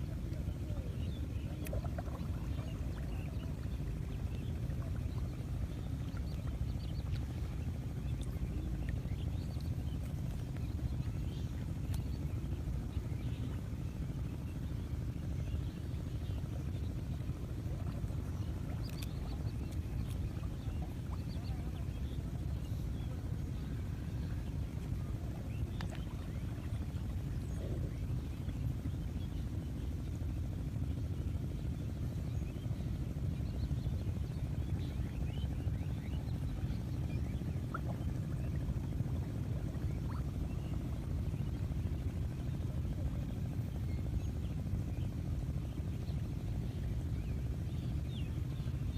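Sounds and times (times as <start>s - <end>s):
steady low rumble: 0.0s - 48.9s.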